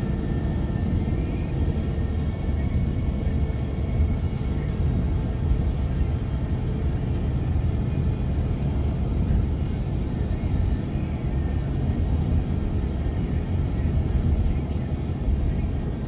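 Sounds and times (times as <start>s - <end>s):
music playing: 0.0s - 16.0s
road and engine rumble: 0.0s - 16.0s.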